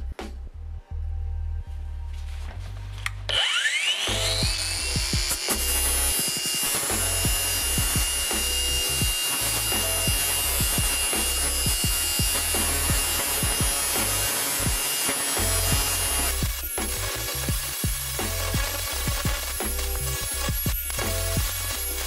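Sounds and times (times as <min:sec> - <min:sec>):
background music with bass beat: 0:00.0 - 0:03.3, 0:04.1 - 0:06.2, 0:06.8 - 0:22.0
angle grinder grinding metal: 0:03.0 - 0:22.0.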